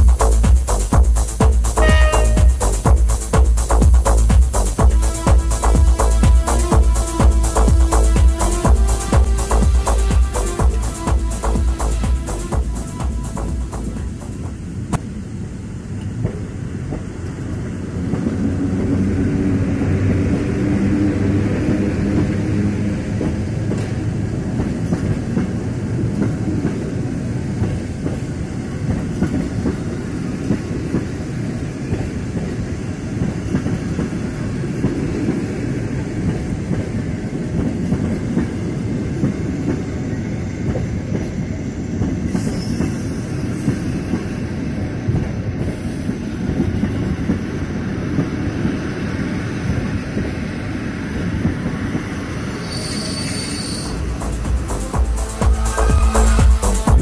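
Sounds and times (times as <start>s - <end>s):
clickety-clack over rail joints: 0.0s - 15.1s, 16.0s - 55.0s
train wheels rumbling on rails: 0.0s - 57.0s.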